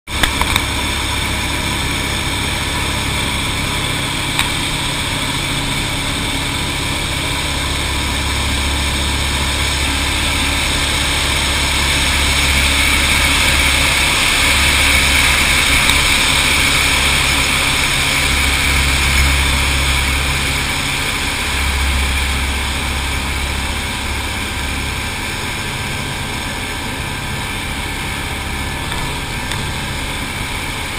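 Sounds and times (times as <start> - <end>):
piston engine droning: 0.1 - 30.9.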